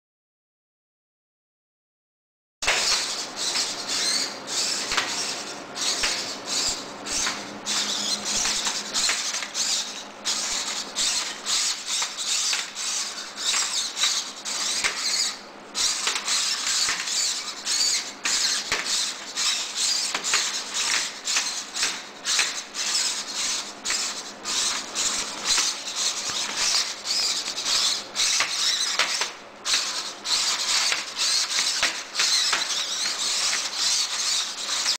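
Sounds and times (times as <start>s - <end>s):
plastic feet clicking on carpet: 2.6s - 34.9s
servo motors whirring: 2.7s - 34.9s.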